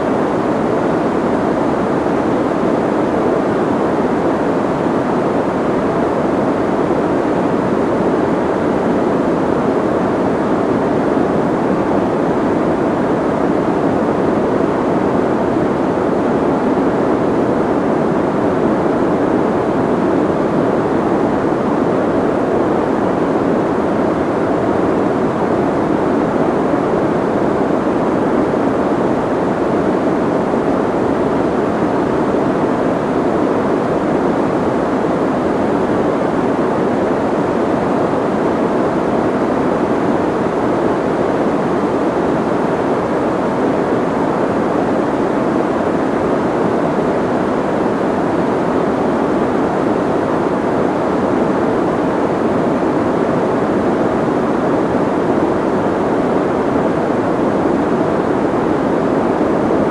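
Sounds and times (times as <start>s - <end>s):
soft muffled white noise: 0.0s - 59.9s.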